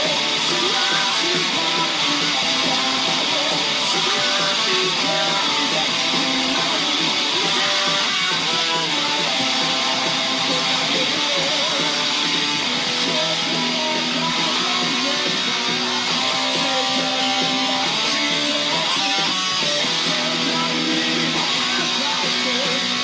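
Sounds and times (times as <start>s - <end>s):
distorted electric guitar riffing: 0.0s - 23.0s
heavy metal band backing track: 0.0s - 23.0s.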